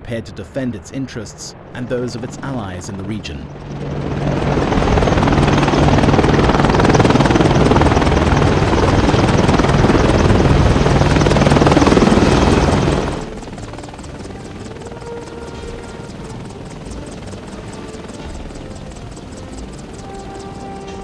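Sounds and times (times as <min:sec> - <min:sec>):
helicopter rotor and engine: 0:01.6 - 0:21.0.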